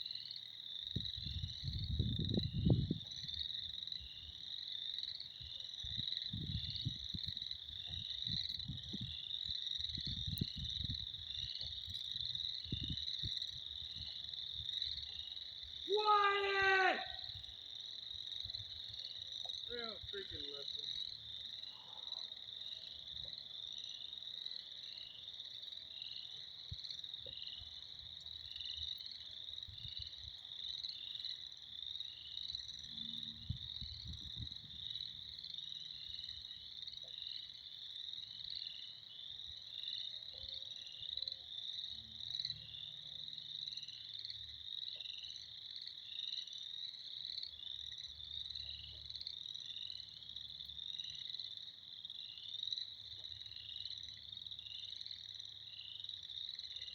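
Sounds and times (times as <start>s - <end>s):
frog chorus: 0.0s - 56.9s.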